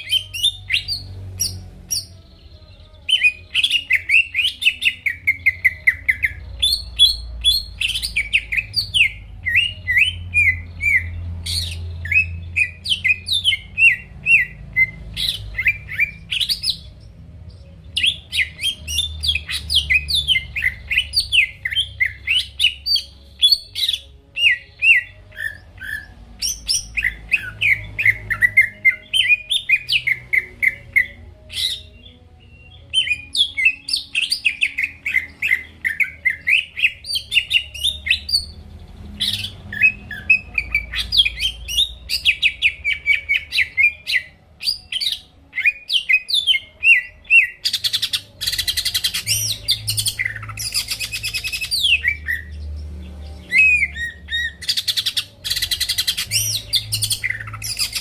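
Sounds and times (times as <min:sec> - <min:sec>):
bird singing sharp chirps: 0:00.0 - 0:58.0.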